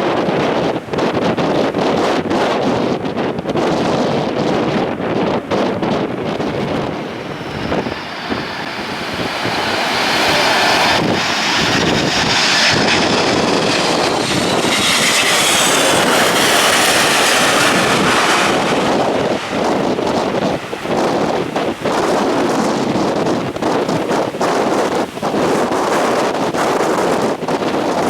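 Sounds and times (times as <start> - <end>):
jet airliner engines passing overhead: 0.0 - 28.0
wind buffeting microphone: 0.0 - 28.0.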